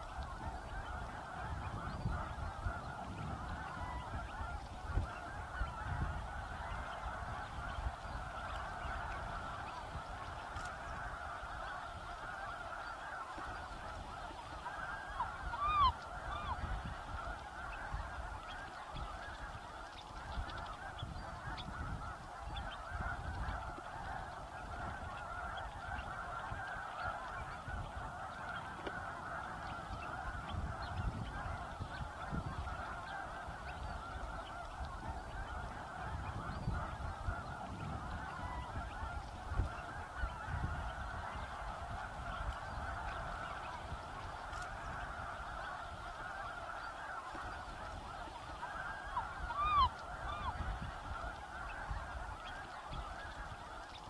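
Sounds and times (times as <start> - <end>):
flock of waterfowl honking: 0.0 - 54.0.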